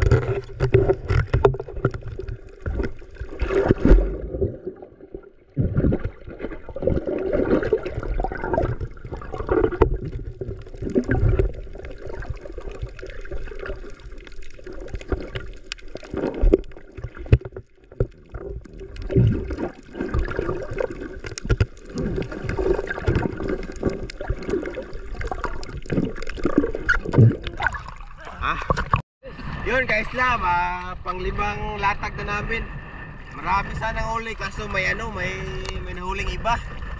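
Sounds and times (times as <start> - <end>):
water sloshing and gurgling: 0.0 - 30.4, 31.1 - 36.9.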